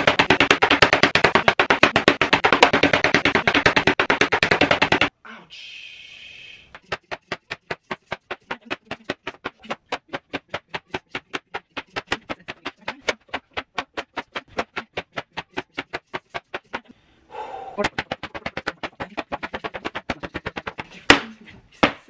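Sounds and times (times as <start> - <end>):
hand slapping paper: 0.0 - 5.1, 6.7 - 16.9, 17.8 - 22.0.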